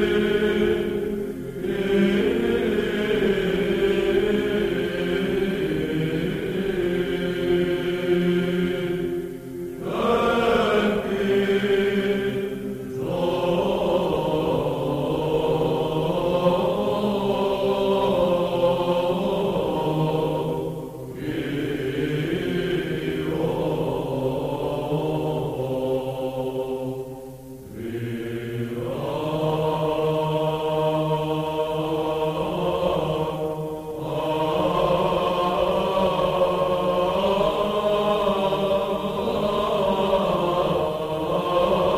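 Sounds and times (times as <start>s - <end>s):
slow vocal chant: 0.0s - 41.9s.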